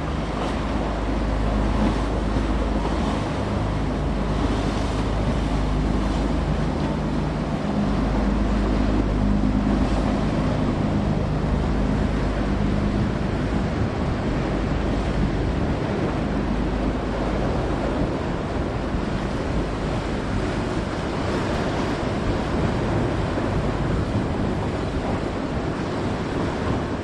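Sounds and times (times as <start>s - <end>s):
boat engine droning: 0.0s - 27.0s
surf washing: 0.0s - 27.0s
wind buffeting microphone: 0.0s - 27.0s.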